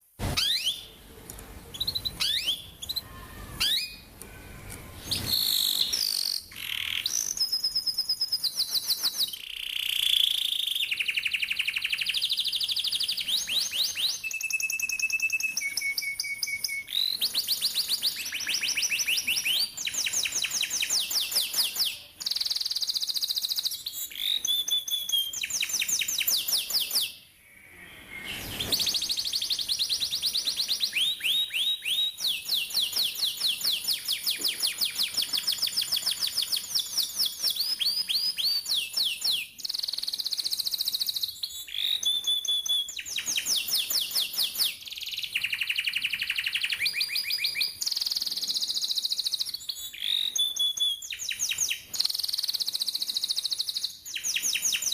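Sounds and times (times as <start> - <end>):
canary singing rolling trills: 0.2 - 54.9.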